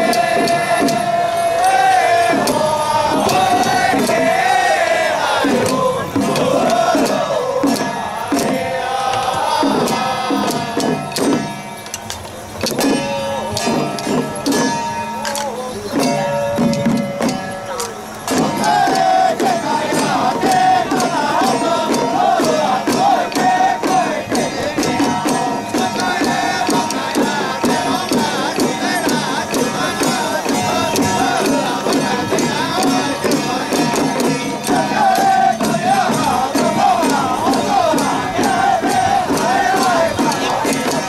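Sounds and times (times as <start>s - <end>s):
crowd noise: 0.0s - 41.0s
hand drums beating: 0.0s - 41.0s.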